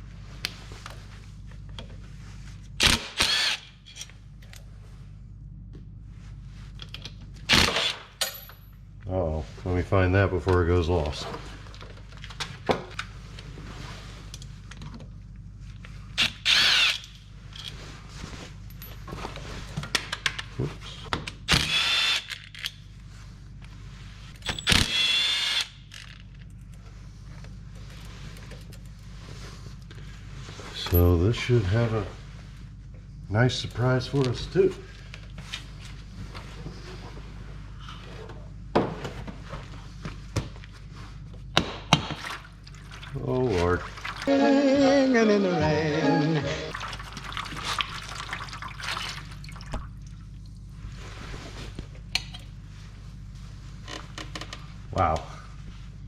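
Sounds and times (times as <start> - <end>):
steady low hum: 0.0 - 21.5, 22.3 - 56.0.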